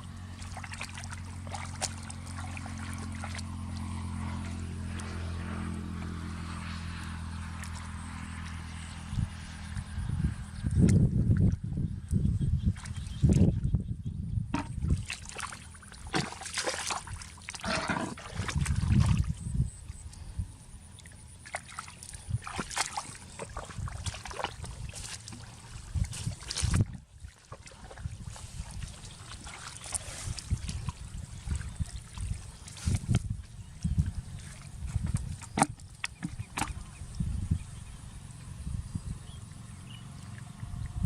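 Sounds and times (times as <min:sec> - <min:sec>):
water sloshing and splashing: 0:00.0 - 0:09.8, 0:12.6 - 0:13.8, 0:14.5 - 0:37.9, 0:39.9 - 0:41.0.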